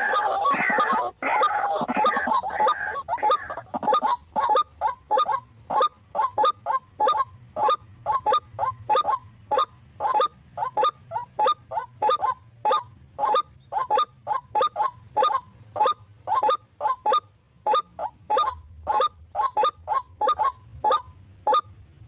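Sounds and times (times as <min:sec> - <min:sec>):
waterhen honking calls: 0:00.0 - 0:21.7.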